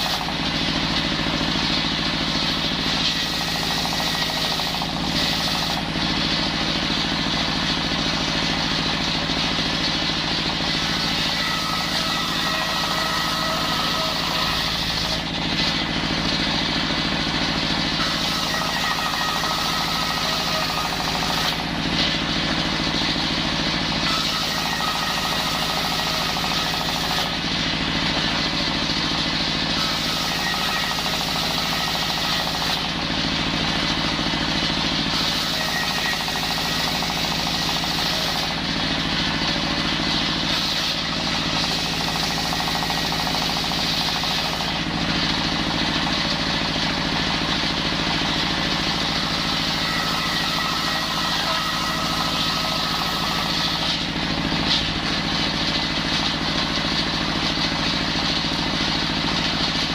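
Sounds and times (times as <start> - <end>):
circular saw cutting timber: 0.0 - 59.9.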